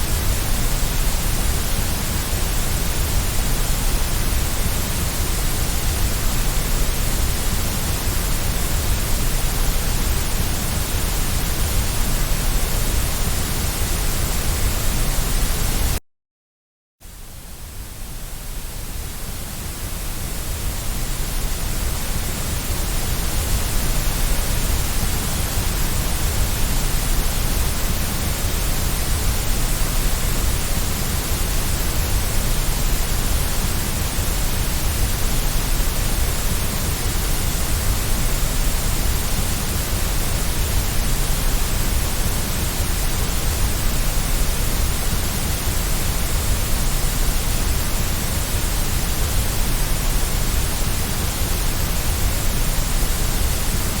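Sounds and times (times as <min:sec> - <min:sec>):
steady white noise hiss: 0:00.0 - 0:16.0, 0:17.0 - 0:54.0.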